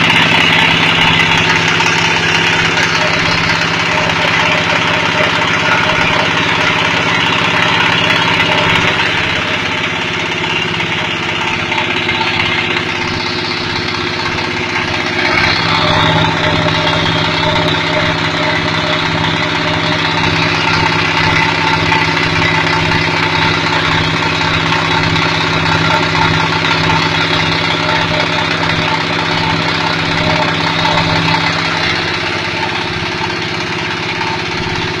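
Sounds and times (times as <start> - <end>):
machine droning steadily: 0.0 - 35.0.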